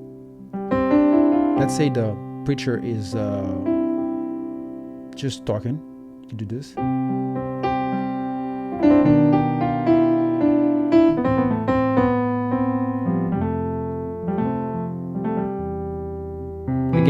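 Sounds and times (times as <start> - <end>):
electric piano chords: 0.0 - 17.0.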